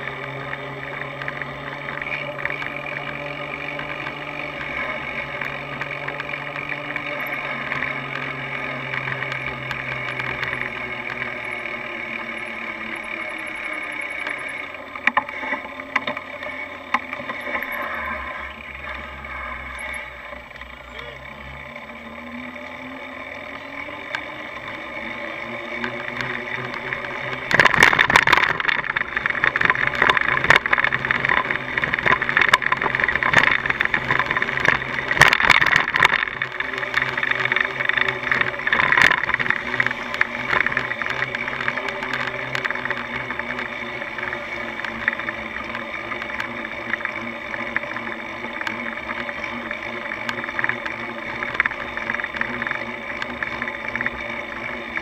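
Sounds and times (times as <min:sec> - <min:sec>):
rushing noise with clicks and rattles: 0:00.0 - 0:55.0
vehicle engine speeding up: 0:00.0 - 0:55.0.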